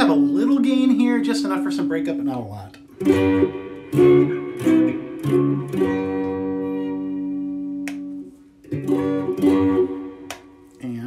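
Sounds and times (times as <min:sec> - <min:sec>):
electric guitar chords strummed: 0:00.0 - 0:10.9.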